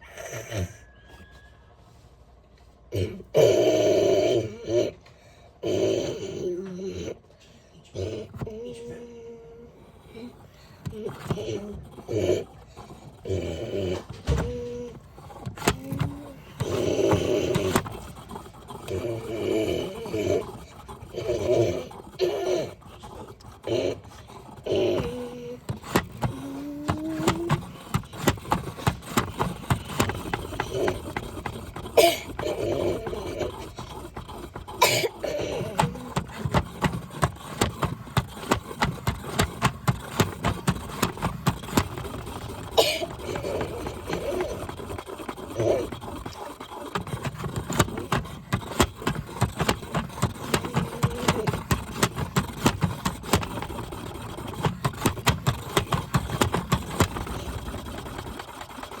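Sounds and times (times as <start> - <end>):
washing machine knocking and rattling: 10.4 - 59.0.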